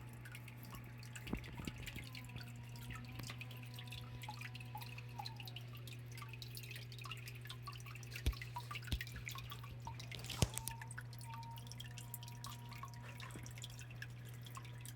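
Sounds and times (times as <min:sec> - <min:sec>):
steady low hum: 0:00.0 - 0:14.9
water splashes: 0:00.0 - 0:14.9
water trickling and dripping: 0:00.0 - 0:14.9.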